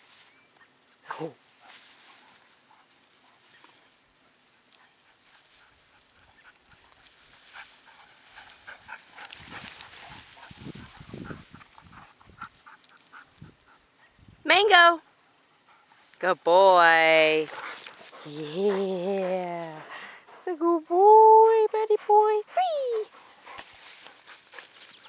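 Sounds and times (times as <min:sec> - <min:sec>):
grass rustling: 0:00.0 - 0:21.6, 0:22.5 - 0:25.0.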